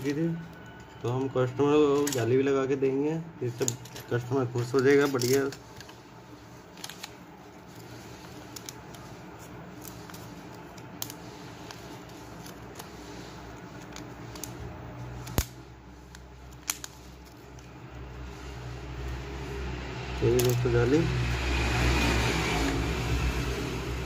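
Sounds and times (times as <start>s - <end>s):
plastic film rustling: 0.0s - 23.4s
low steady hum: 0.0s - 24.0s.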